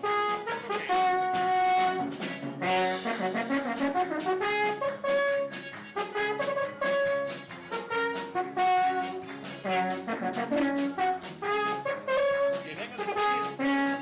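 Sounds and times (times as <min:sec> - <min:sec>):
brass instruments playing: 0:00.0 - 0:14.0.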